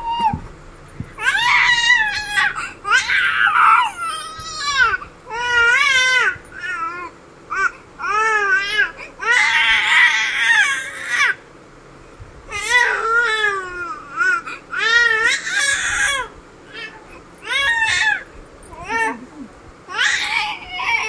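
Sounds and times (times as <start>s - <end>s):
infant crying: 1.2s - 11.4s, 12.5s - 21.0s.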